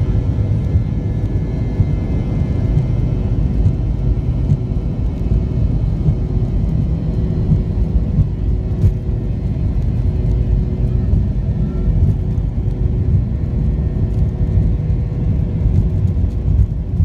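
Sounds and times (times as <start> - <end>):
cabin low rumble: 0.0 - 17.0
jet engine whine: 0.0 - 17.0.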